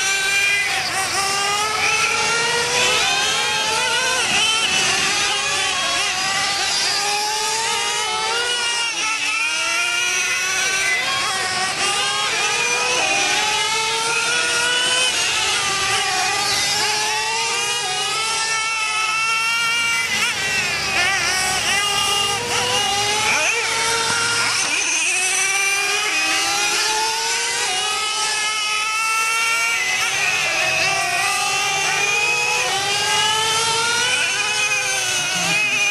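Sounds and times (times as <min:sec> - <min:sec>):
rc truck engines revving: 0:00.0 - 0:35.9.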